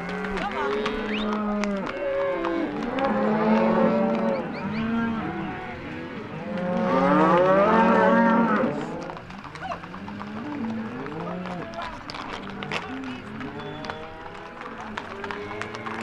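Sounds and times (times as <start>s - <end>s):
cattle mooing and bawling: 0.0s - 16.0s.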